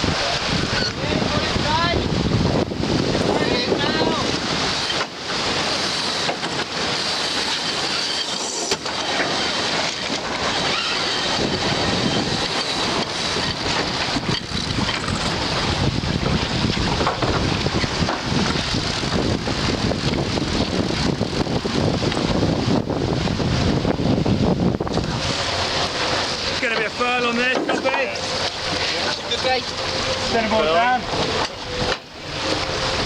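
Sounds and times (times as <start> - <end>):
water rushing along hull: 0.0 - 33.0
wind buffeting microphone: 0.0 - 33.0.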